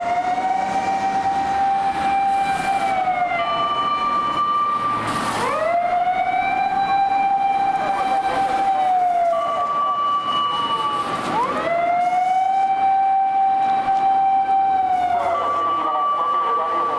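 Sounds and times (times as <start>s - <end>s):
rescue truck siren wailing: 0.0s - 16.9s.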